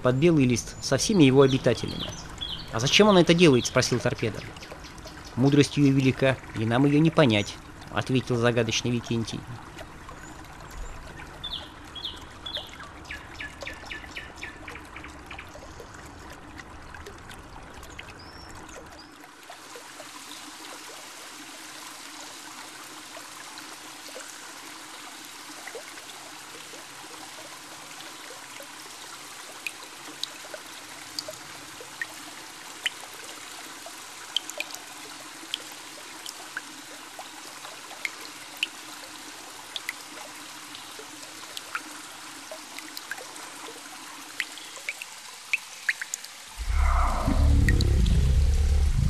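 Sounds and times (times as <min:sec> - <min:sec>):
water trickling in culvert: 0:00.0 - 0:47.0
sharp water drips: 0:00.0 - 0:48.9.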